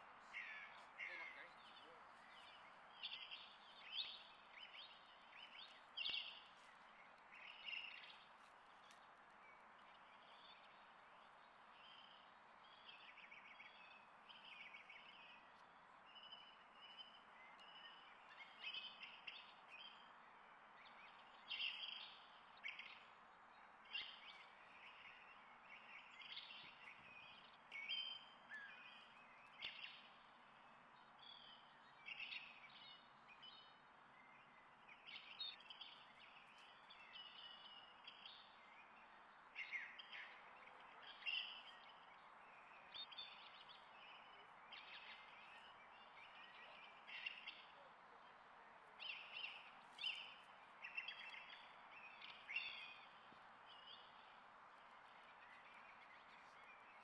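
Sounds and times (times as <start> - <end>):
faint outdoor hiss: 0.0 - 57.0
small birds chirping: 0.0 - 57.0.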